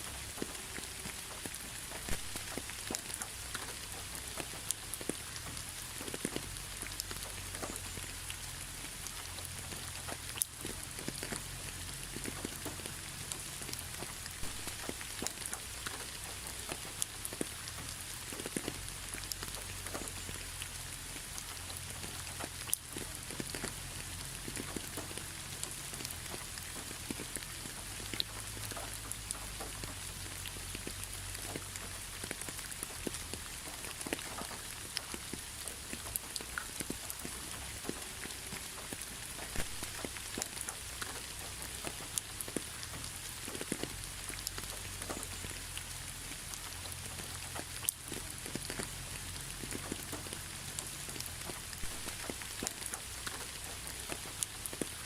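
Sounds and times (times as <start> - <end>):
rain hiss: 0.0 - 55.0
raindrops ticking on surface: 0.0 - 55.0.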